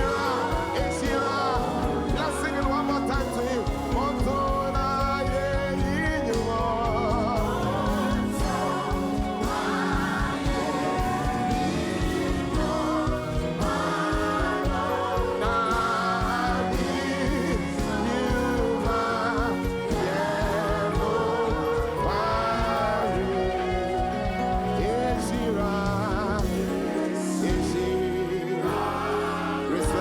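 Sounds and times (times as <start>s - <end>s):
steady low beat: 0.0s - 28.5s
gospel singing with vibrato: 0.0s - 30.0s
sustained instrumental backing: 0.0s - 30.0s.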